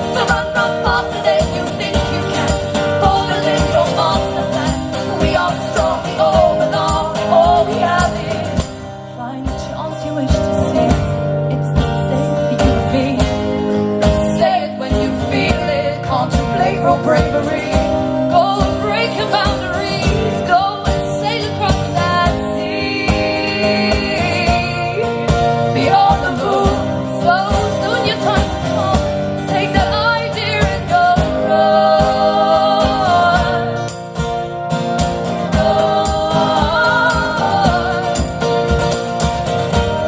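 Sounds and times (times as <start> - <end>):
woman singing: 0.0 - 34.0, 35.4 - 39.0
strummed acoustic guitar: 0.0 - 40.0.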